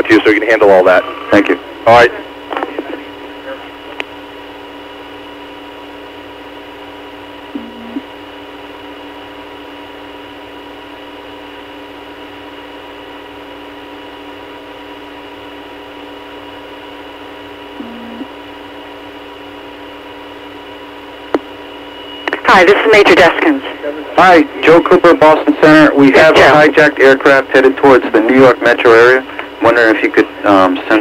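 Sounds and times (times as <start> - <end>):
telephone line hum: 0.0 - 31.0.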